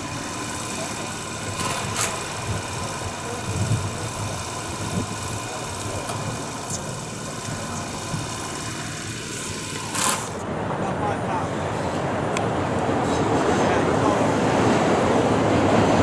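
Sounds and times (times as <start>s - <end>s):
engine running with low drone: 0.0s - 16.0s.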